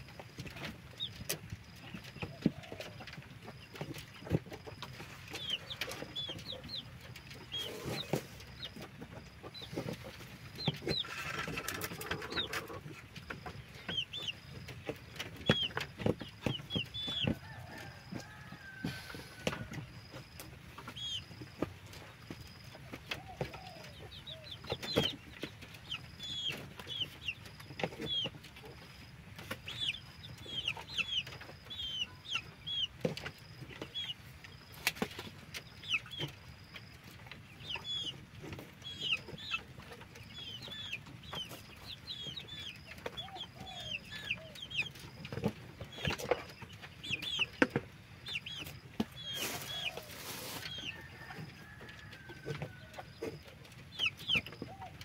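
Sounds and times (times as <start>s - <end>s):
chickens chirping and clucking: 0.0s - 55.0s.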